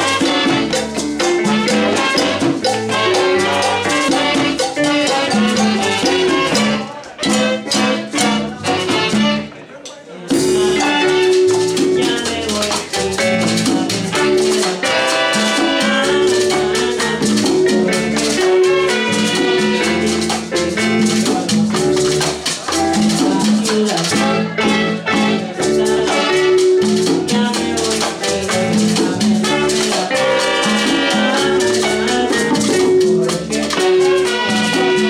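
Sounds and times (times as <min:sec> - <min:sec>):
trumpet and trombone: 0:00.0 - 0:09.6, 0:10.3 - 0:35.0
conga and bongo drums: 0:00.0 - 0:35.0
salsa band playing: 0:00.0 - 0:35.0.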